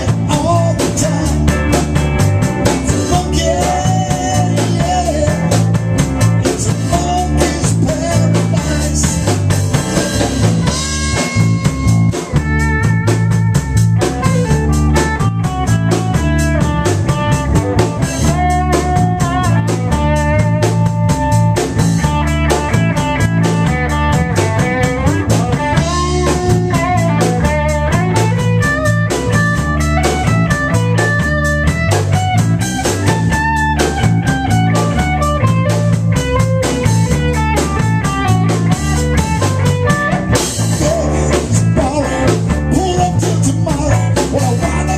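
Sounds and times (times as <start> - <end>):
bending electric guitar lead: 0.0 - 44.9
drum kit with rimshots: 0.0 - 44.9
walking bass line: 0.0 - 44.9.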